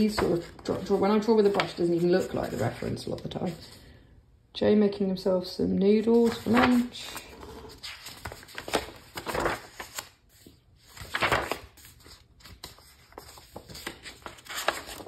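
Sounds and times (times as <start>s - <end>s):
paper pages rustling: 0.0s - 3.8s, 6.1s - 15.0s.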